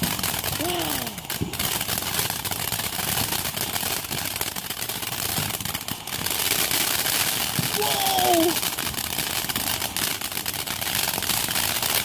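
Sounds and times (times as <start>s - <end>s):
firework crackling and hissing: 0.0s - 12.0s.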